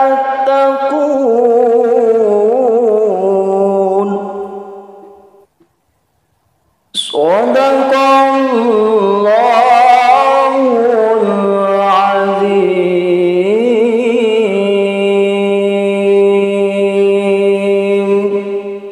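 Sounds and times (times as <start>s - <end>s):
man reciting melodically into microphone: 0.0s - 5.4s, 6.9s - 18.9s.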